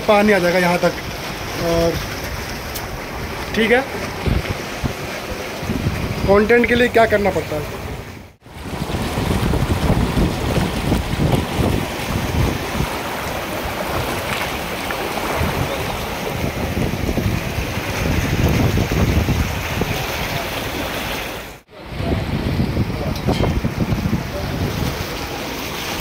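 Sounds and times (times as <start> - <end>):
floodwater roaring: 0.0 - 26.0
wind buffeting microphone: 1.0 - 26.0.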